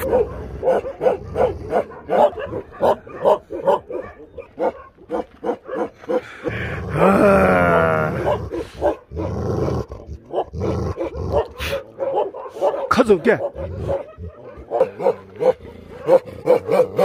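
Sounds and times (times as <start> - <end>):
dogs barking: 0.0 - 6.8, 8.0 - 17.0.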